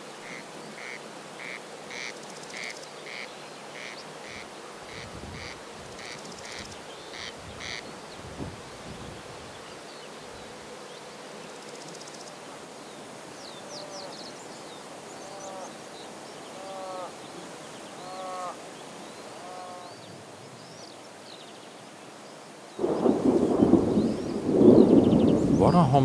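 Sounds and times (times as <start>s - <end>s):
insect buzzing: 0.0s - 25.6s
small birds chirping: 2.0s - 26.0s.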